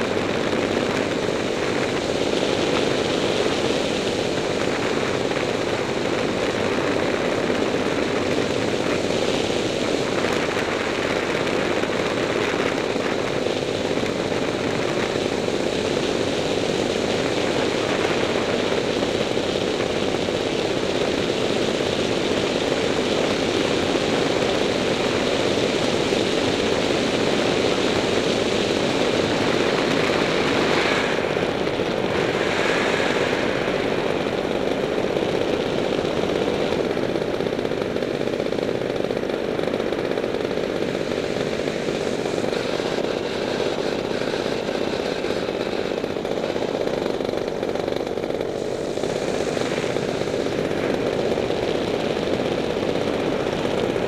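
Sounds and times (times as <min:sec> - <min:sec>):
paramotor engine and propeller drone: 0:00.0 - 0:54.0.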